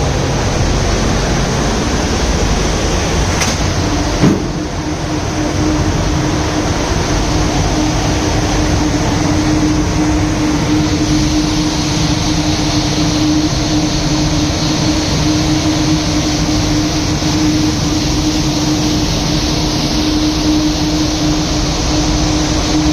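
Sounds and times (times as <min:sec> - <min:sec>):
constant droning hum: 0:00.0 - 0:22.9
rail vehicle rumble and hiss: 0:00.0 - 0:22.9.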